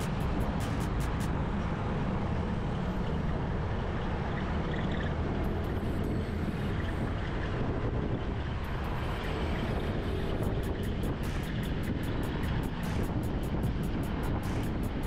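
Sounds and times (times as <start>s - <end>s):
wind rush: 0.0s - 4.2s, 5.2s - 15.0s
scooter engine and road rumble: 0.0s - 15.0s.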